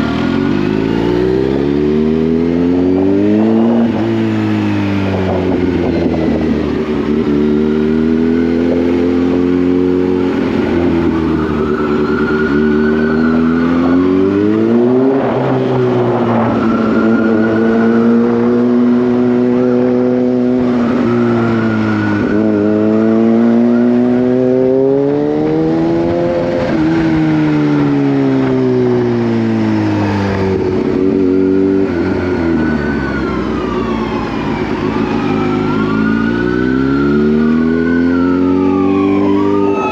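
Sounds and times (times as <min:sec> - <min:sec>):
high engine whine: 0:00.0 - 0:39.9
motorcycle engine revving: 0:00.0 - 0:39.9.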